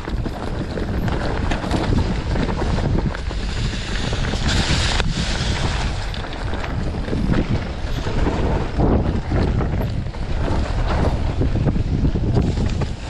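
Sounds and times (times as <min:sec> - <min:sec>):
bike rumbling and rattling: 0:00.0 - 0:13.0
wind buffeting microphone: 0:00.0 - 0:13.0.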